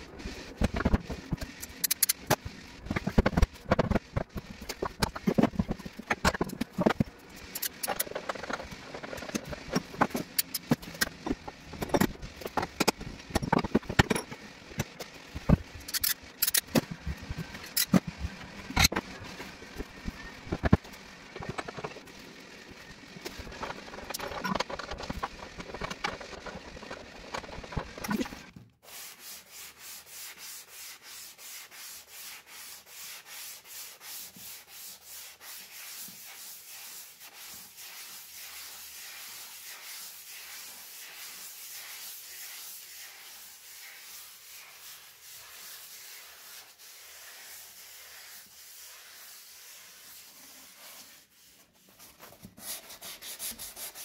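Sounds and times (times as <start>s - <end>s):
sandpaper scraping wood: 0.0s - 54.0s
uneven rubbing with knocks: 0.1s - 54.0s.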